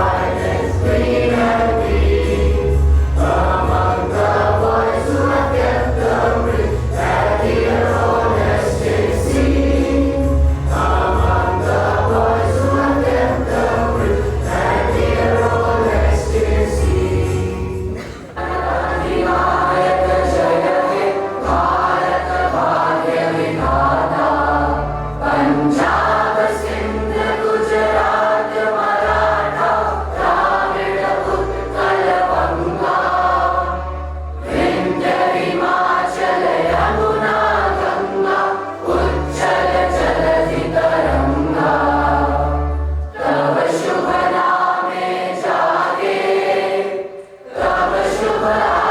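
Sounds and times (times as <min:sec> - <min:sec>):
choir singing: 0:00.0 - 0:48.9
instrumental accompaniment: 0:00.0 - 0:48.9.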